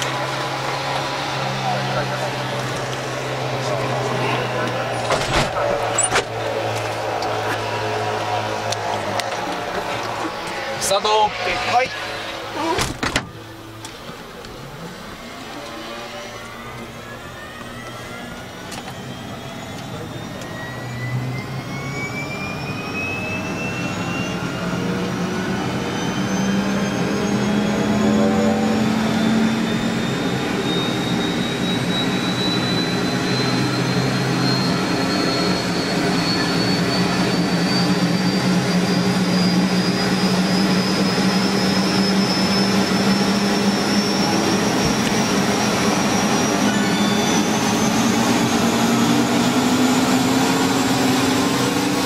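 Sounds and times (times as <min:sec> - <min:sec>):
helicopter turbine starting up: 0:00.0 - 0:52.0.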